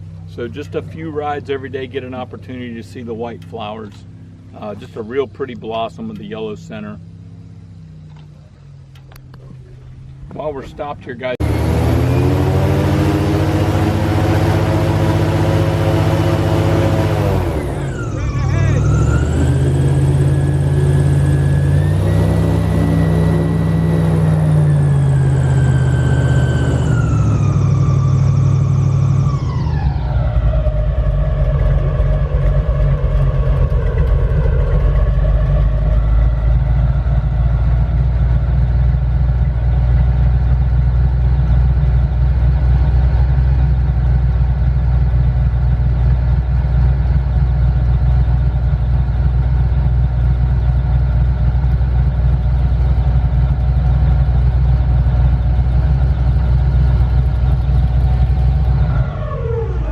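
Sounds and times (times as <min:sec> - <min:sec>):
airboat engine droning: 0:00.0 - 0:59.9.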